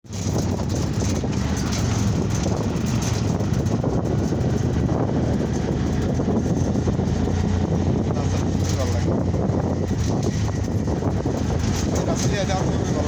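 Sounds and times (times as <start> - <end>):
vehicle road noise rumble: 0.0 - 13.0
wind buffeting microphone: 0.0 - 13.0.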